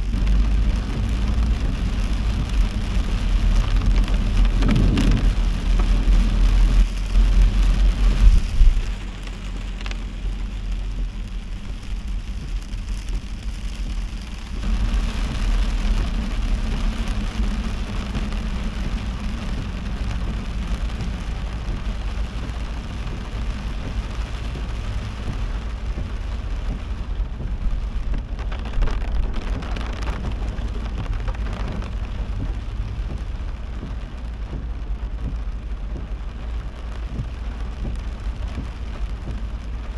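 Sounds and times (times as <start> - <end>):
car engine and tyre rumble: 0.0 - 39.9
heavy rain on a car: 0.0 - 39.9.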